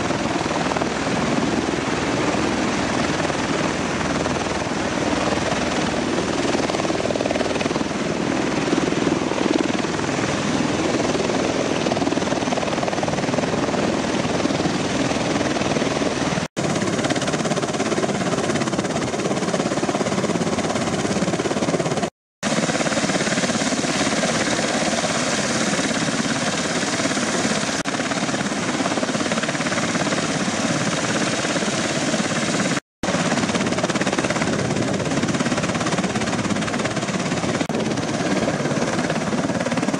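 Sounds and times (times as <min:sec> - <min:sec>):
tiltrotor aircraft engines roaring: 0:00.0 - 0:39.9.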